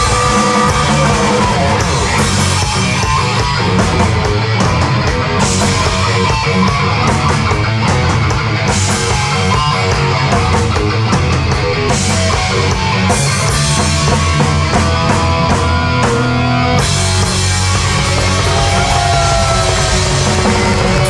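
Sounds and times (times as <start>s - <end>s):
bass guitar: 0.0s - 21.0s
distorted electric guitar: 0.0s - 21.0s
drum kit: 0.0s - 21.0s.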